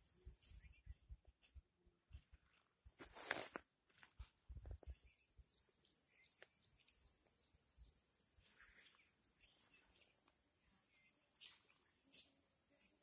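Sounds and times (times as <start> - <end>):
faint bird chirps: 0.0 - 3.3, 4.1 - 13.0.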